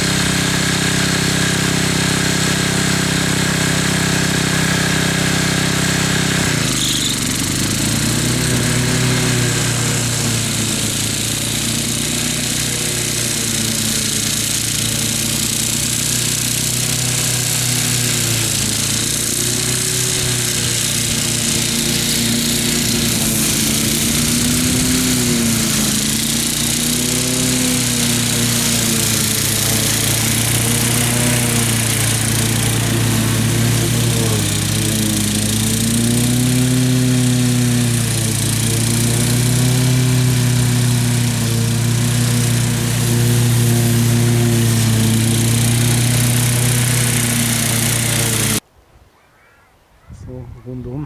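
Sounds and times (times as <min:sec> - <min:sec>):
ride-on mower engine running: 0:00.0 - 0:48.6.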